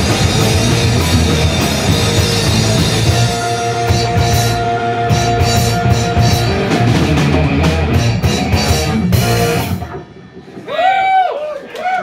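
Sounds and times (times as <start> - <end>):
drum kit with cymbal crashes: 0.0 - 11.1
electric guitars: 0.0 - 11.5
bass guitar: 0.0 - 11.6.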